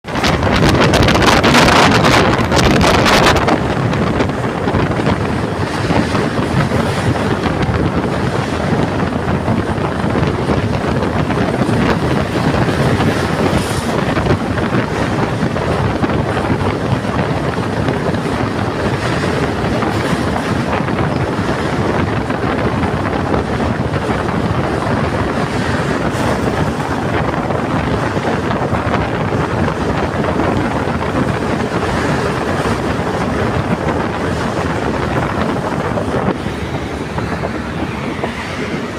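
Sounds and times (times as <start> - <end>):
train running noise: 0.0 - 38.9
wind buffeting microphone: 0.0 - 38.9.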